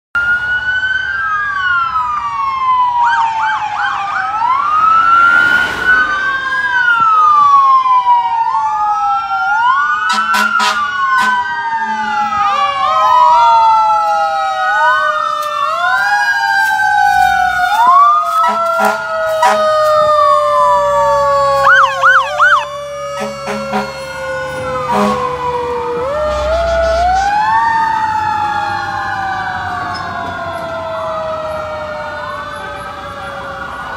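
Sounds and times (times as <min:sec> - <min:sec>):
sirens wailing: 0:00.2 - 0:33.9
fast siren warble: 0:03.0 - 0:09.0, 0:10.3 - 0:33.9.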